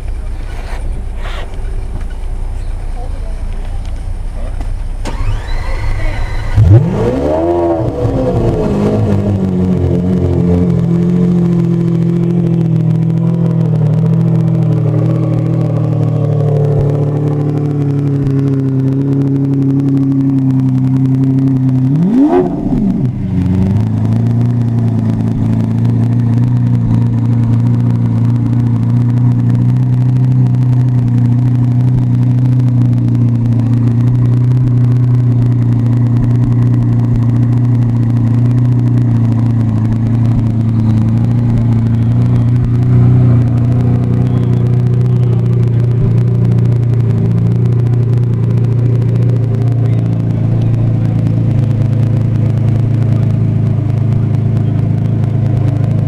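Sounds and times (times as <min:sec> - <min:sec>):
car engine idling: 0:00.0 - 0:56.0
engine rev: 0:00.0 - 0:56.0.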